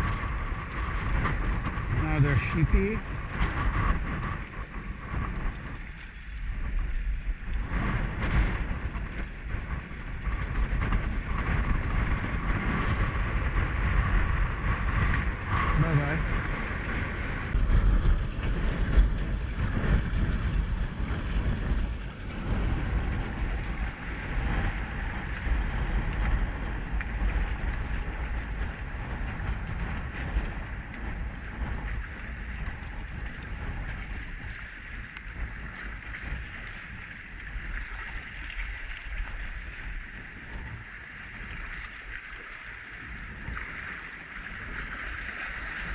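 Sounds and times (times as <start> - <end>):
water lapping against kayak hull: 0.0 - 45.9
wind buffeting microphone: 0.0 - 45.9.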